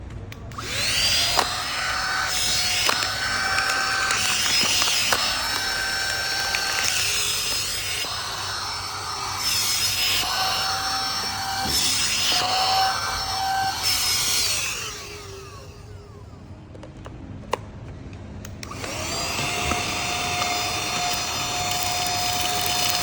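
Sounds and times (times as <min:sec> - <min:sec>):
vacuum cleaner motor whining: 0:00.5 - 0:16.6, 0:18.6 - 0:23.0.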